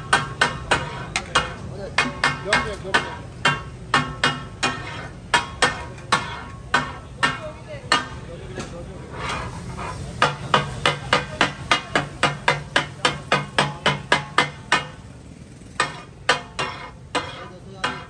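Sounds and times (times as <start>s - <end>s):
metal blades clanging on griddle: 0.0s - 18.0s.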